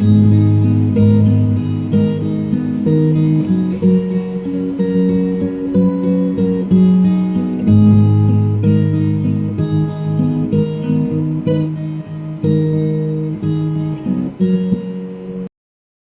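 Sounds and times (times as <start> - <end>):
acoustic guitar music: 0.0 - 15.5.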